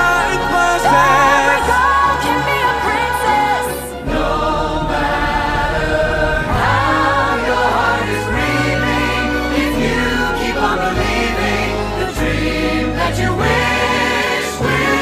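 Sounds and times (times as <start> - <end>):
choir singing sustained notes: 0.0 - 15.0
orchestral music: 0.0 - 15.0.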